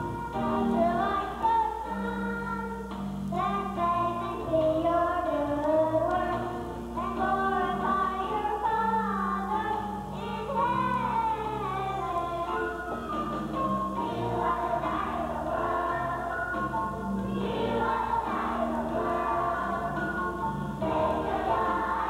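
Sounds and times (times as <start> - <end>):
children singing into microphones: 0.0 - 13.0, 13.9 - 22.0
instrumental accompaniment: 0.0 - 22.0.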